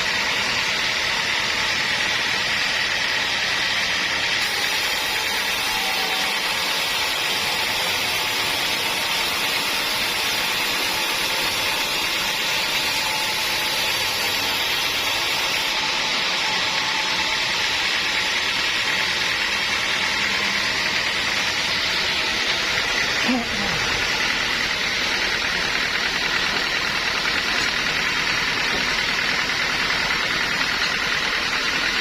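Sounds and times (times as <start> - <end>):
sawmill machinery running: 0.0 - 32.0.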